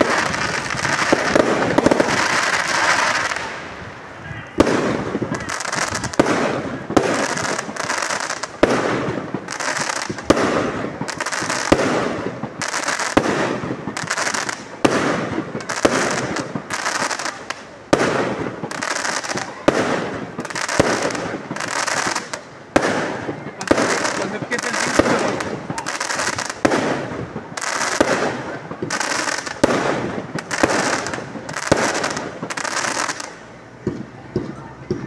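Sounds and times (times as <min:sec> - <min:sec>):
fireworks banging: 0:00.0 - 0:35.0
fireworks crackling and hissing: 0:00.0 - 0:35.0.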